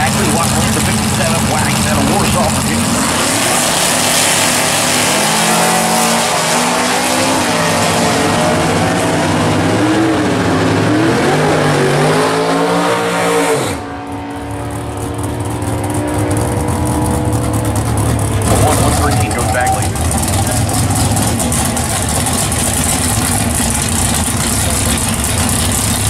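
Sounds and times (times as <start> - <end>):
drag racing cars at full throttle: 0.0 - 26.0
engine pitch shifting with gears: 0.0 - 26.0.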